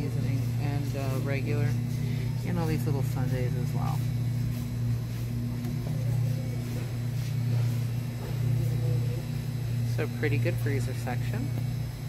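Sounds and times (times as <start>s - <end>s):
freezer hum: 0.0s - 12.0s.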